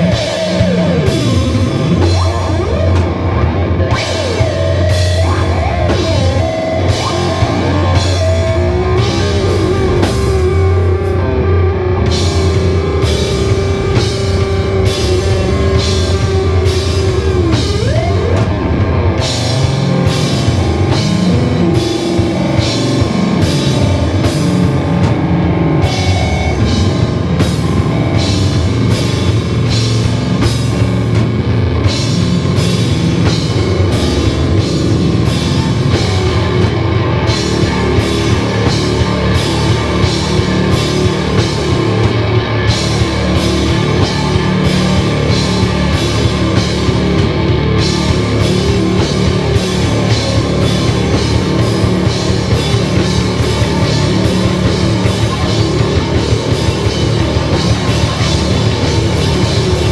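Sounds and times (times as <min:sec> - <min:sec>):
drum and cymbal hits: 0:00.0 - 0:59.9
electric guitars: 0:00.0 - 0:59.9
live rock band playing: 0:00.0 - 0:59.9.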